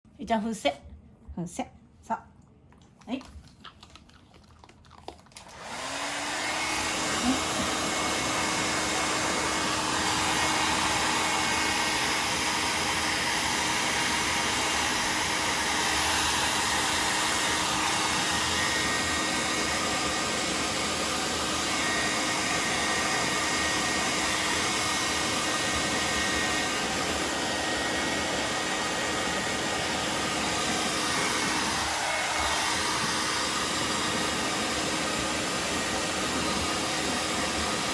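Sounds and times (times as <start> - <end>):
hair dryer blowing: 5.4 - 37.9.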